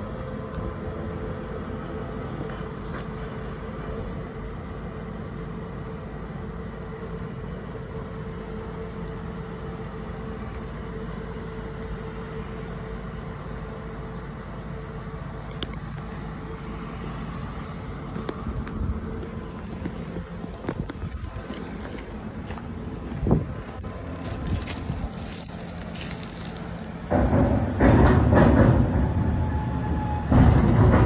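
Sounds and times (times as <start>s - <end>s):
ferry engine drone: 0.0s - 31.0s.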